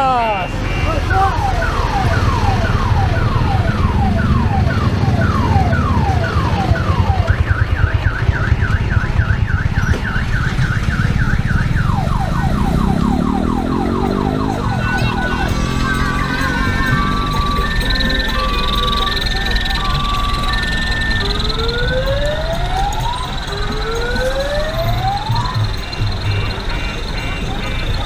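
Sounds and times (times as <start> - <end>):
vehicle engine rumbling: 0.0 - 28.0
electronic siren horn: 0.4 - 28.0.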